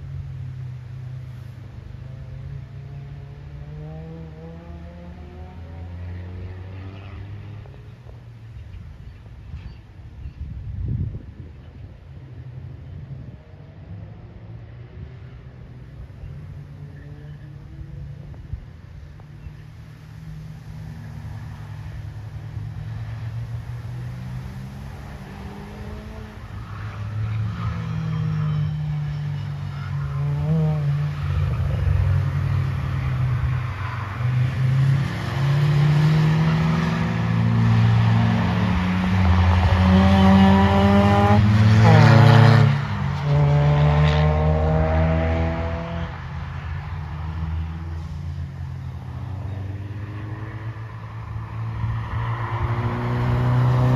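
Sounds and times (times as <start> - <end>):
race car engines accelerating: 0.0 - 9.2, 12.2 - 53.9.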